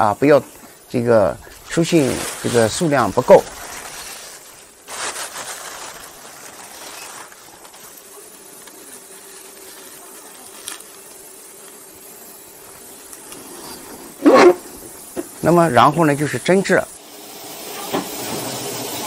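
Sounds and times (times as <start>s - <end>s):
plastic sheeting rustling: 0.0s - 16.6s.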